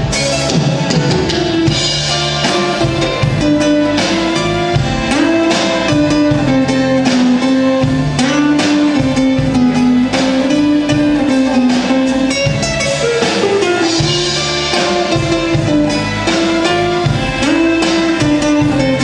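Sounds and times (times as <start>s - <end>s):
bass: 0.0s - 19.0s
drum kit steady beat: 0.0s - 19.0s
guitar: 0.0s - 19.0s
held melody line: 0.0s - 19.0s.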